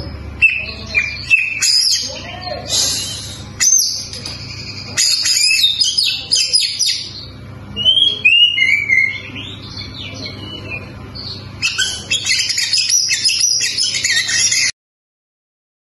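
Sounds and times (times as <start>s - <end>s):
bird singing whistles and twitters: 0.4s - 4.2s, 5.0s - 14.7s.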